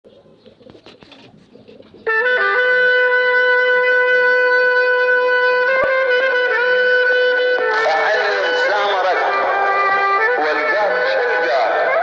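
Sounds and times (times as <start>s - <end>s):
wind instrument long note: 2.1s - 12.0s.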